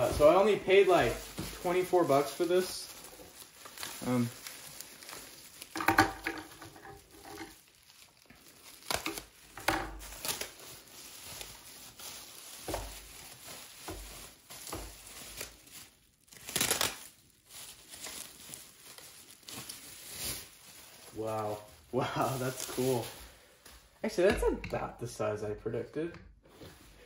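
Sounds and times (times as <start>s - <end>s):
packaging crinkling and rustling: 0.0s - 23.9s.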